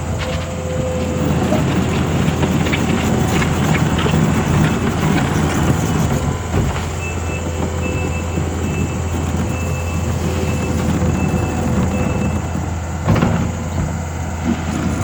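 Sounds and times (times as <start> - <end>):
diesel engine running: 0.0 - 15.0
rattly clatter of tracks: 0.0 - 15.0.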